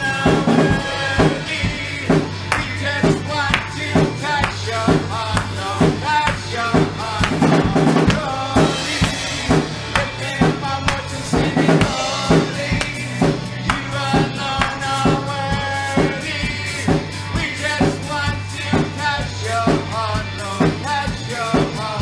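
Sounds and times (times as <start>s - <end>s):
drum kit beat: 0.0s - 22.0s
worship music: 0.0s - 22.0s.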